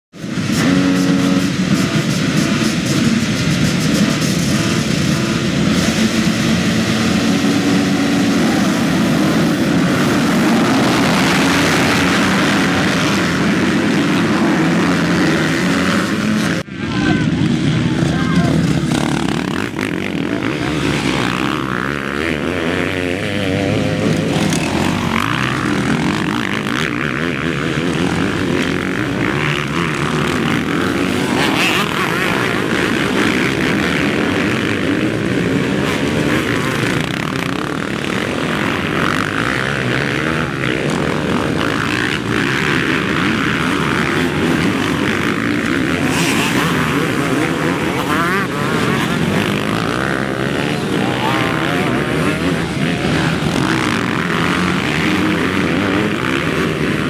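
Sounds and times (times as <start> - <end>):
dirt bike engines revving: 0.2 - 57.0.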